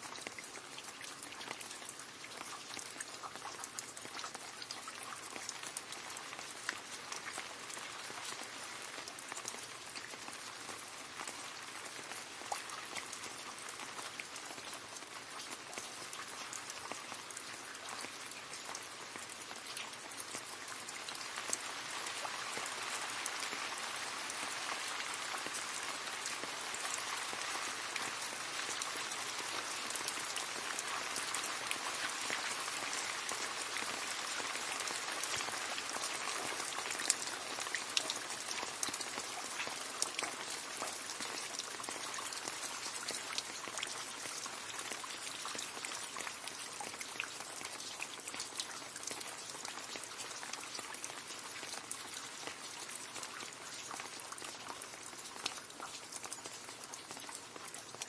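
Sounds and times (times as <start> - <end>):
rain falling into a puddle: 0.0 - 58.0
water splashes and plinks: 0.0 - 58.0.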